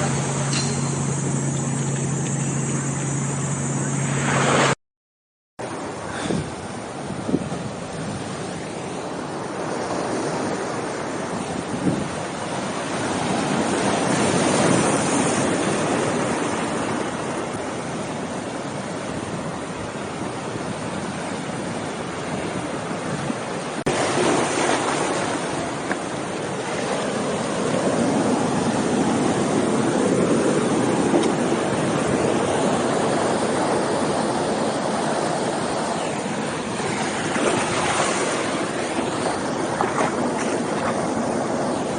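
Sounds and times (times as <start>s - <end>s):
ocean surf on beach: 0.0s - 4.8s, 5.6s - 41.9s.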